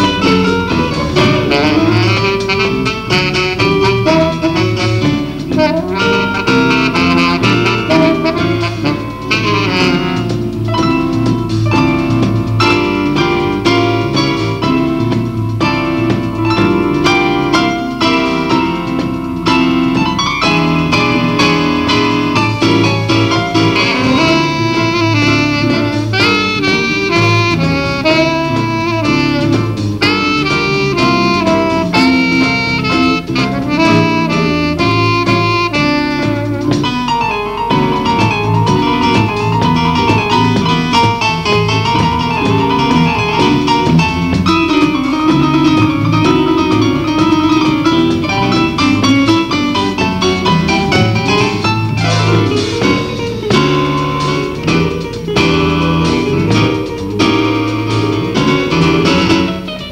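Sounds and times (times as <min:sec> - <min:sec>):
electric bass: 0:00.0 - 0:59.9
electronic keyboard piano chords: 0:00.0 - 0:59.9
saxophone held notes: 0:00.0 - 0:59.9.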